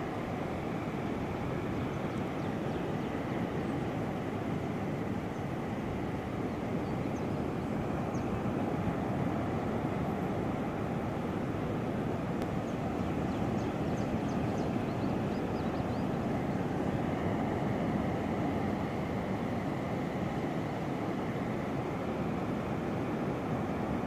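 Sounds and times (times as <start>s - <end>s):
ocean surf rushing: 0.0s - 24.0s.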